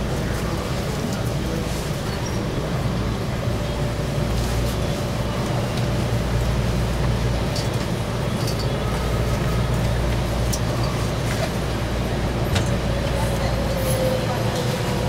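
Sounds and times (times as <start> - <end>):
train car low rumble: 0.0 - 15.0.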